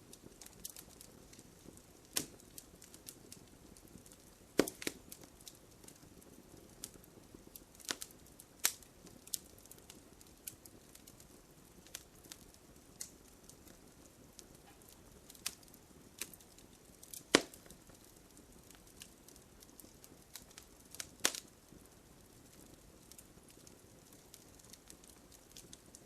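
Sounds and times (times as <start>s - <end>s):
campfire crackling and popping: 0.0s - 26.0s
faint low hiss: 0.0s - 26.0s.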